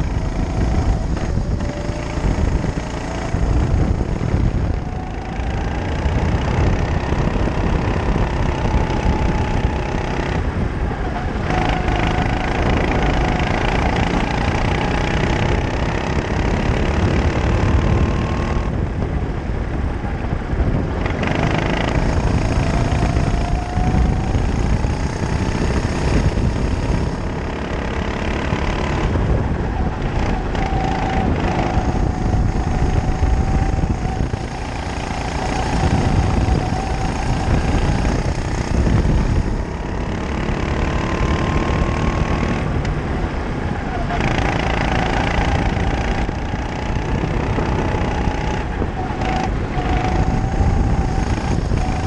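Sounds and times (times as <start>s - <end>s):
kart engine revving: 0.0s - 52.0s
wind rumble on microphone: 0.0s - 52.0s.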